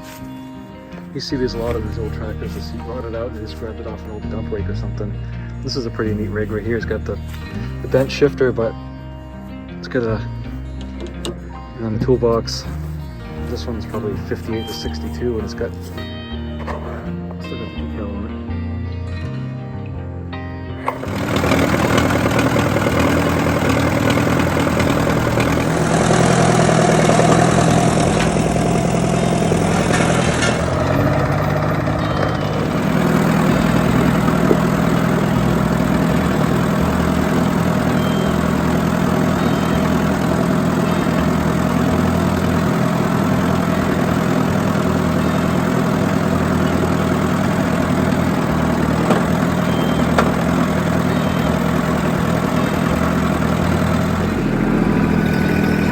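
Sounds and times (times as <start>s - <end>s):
engine idling: 0.0s - 18.3s, 20.8s - 55.9s.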